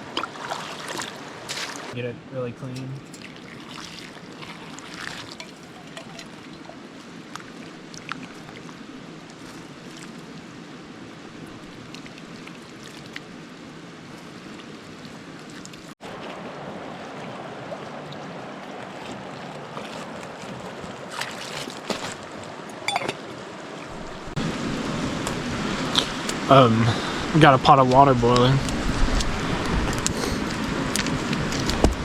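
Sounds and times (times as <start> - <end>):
creek flowing: 0.0 - 32.0.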